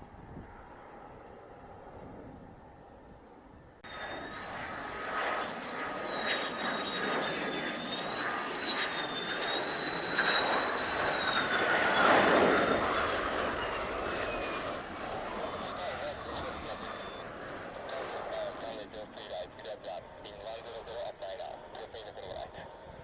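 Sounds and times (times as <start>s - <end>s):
jet engine rushing and whining: 0.0s - 23.0s.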